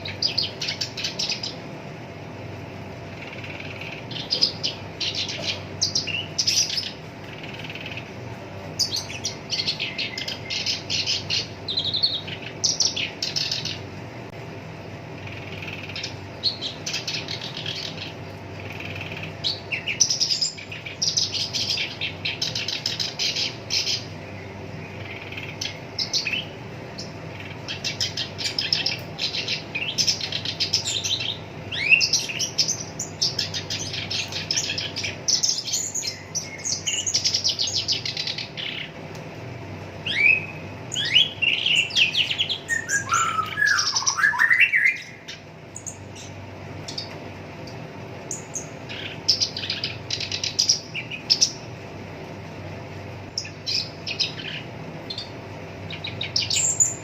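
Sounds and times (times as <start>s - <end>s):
reed warbler singing: 0.0s - 51.8s, 52.8s - 57.0s.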